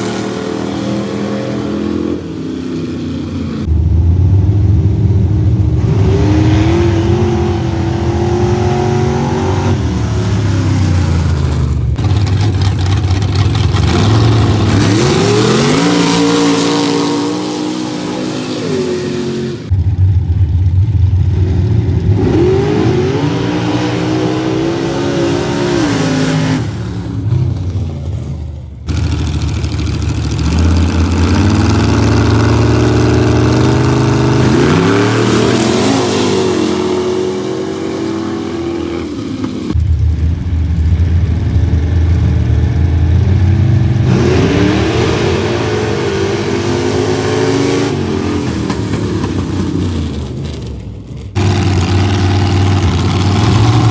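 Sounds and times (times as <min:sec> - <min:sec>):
truck engines revving and accelerating: 0:00.0 - 0:53.9.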